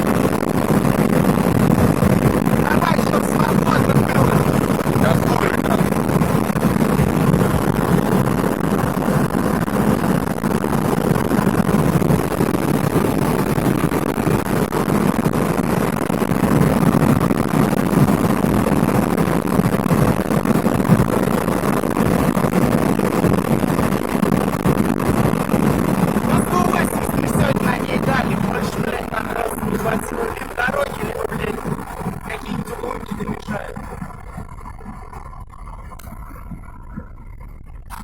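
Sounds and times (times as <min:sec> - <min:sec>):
road noise: 0:00.0 - 0:36.8
car engine running under load: 0:00.0 - 0:38.0.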